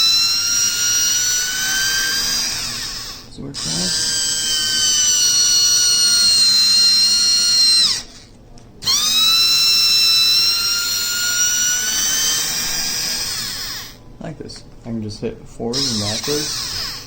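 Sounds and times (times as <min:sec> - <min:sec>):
cordless drill whining: 0:00.0 - 0:14.0, 0:15.7 - 0:17.0.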